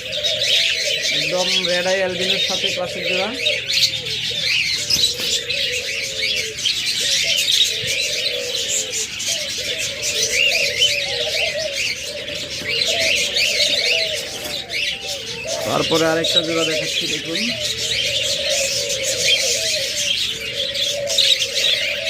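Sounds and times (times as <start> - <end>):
doves cooing: 0.0 - 22.0
parrots chirping and chattering: 0.0 - 22.0.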